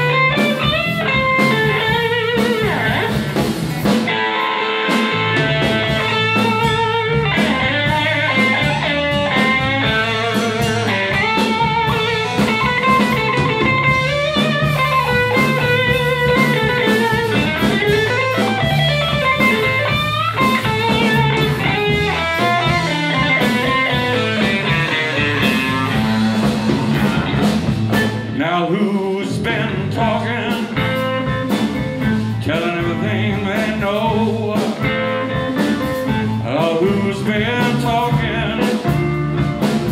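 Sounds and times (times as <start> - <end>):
electric guitar lead: 0.0 - 28.8, 29.4 - 39.9
bass: 0.0 - 39.9
drums: 0.0 - 39.9.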